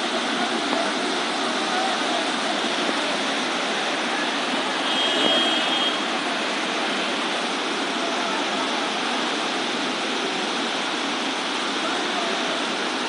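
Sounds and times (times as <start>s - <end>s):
flooded river roaring: 0.0s - 13.0s.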